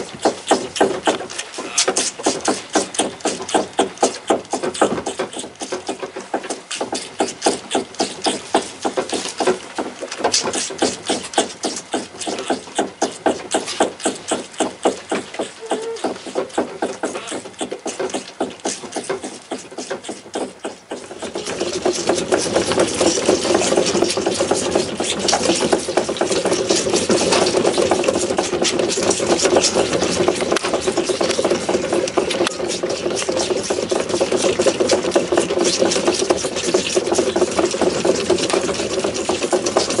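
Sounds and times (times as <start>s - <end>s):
fawns slurping and sucking milk: 0.0s - 40.0s.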